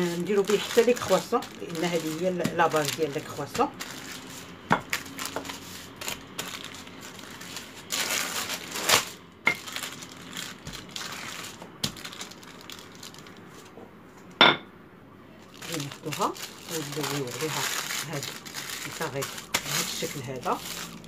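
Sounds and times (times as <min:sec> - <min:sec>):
baking paper crinkling: 0:00.0 - 0:13.7, 0:15.4 - 0:21.0.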